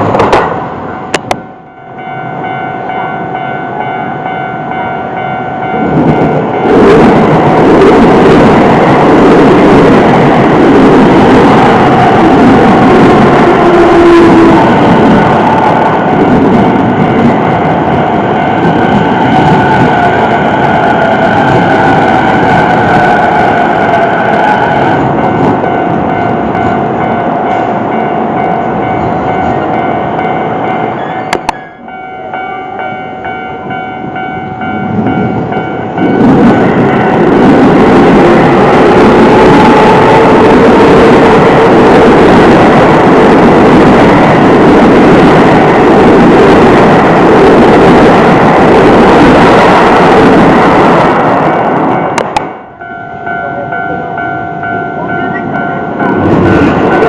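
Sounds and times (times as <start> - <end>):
crossing warning bells ringing: 0.0 - 57.0
electric trains passing: 0.0 - 57.0.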